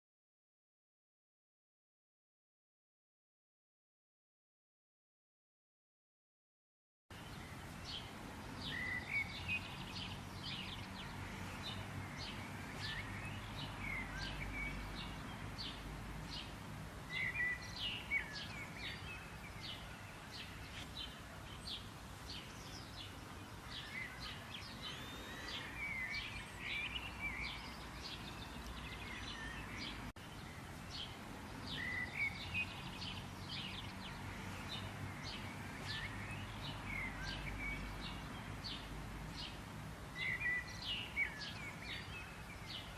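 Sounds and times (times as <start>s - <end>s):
songbirds chirping: 7.1s - 42.9s.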